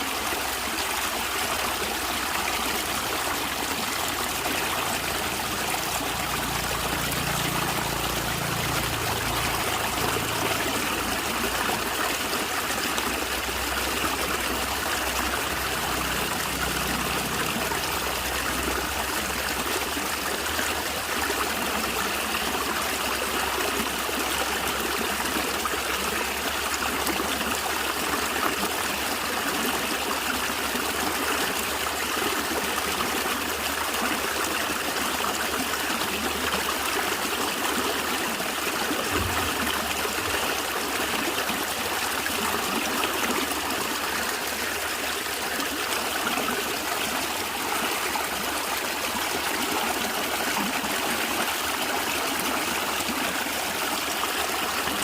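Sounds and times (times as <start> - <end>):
stream gurgling over rocks: 0.0 - 55.0.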